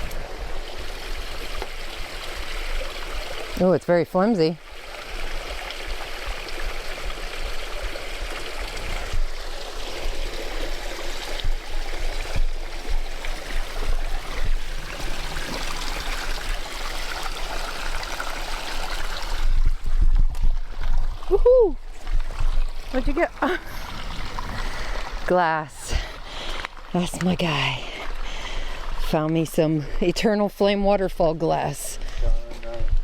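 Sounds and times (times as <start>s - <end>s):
creek water over rocks: 0.0s - 33.0s.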